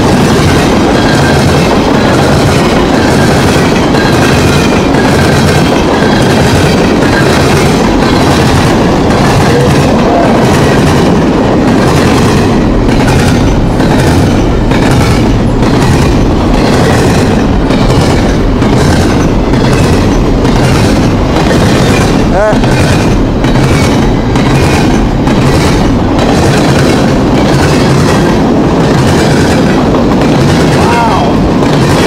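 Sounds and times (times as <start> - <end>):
railroad cars rolling past: 0.0 - 32.0
wheels clicking over rail joints: 0.0 - 32.0.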